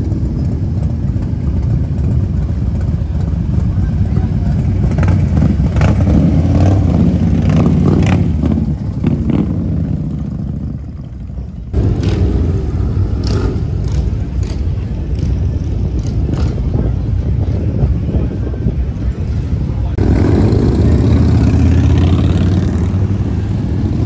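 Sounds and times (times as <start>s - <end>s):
motorcycle engines rumbling: 0.0s - 24.0s.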